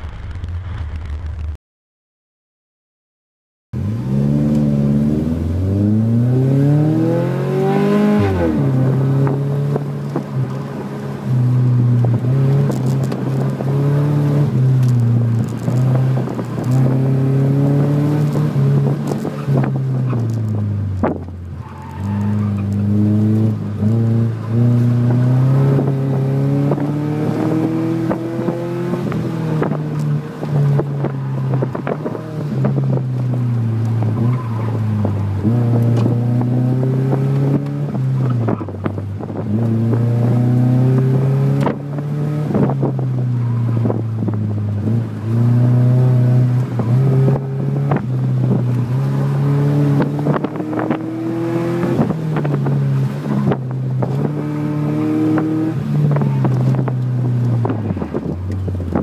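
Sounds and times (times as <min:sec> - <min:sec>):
car engine revving: 0:03.8 - 0:59.0.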